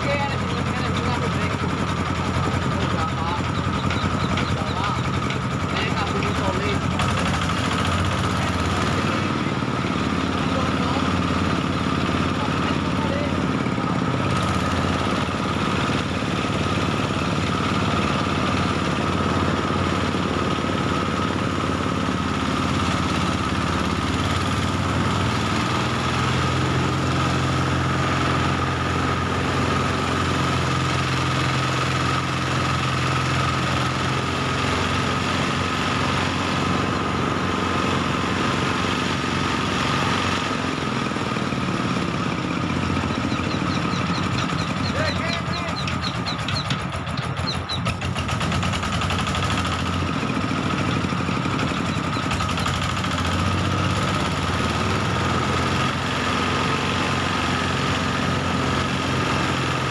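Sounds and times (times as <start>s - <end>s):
thresher engine running: 0.0s - 59.9s.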